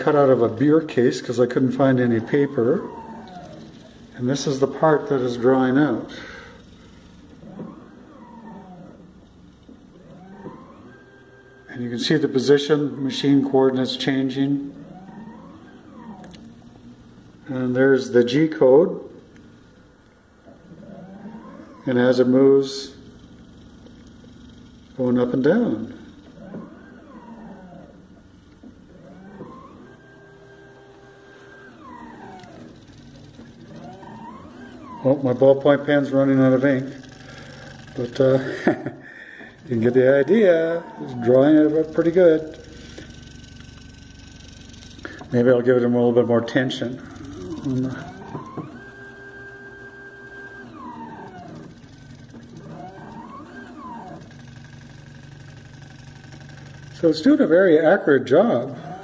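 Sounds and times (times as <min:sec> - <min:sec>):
stepper motors whining: 0:00.0 - 0:59.0.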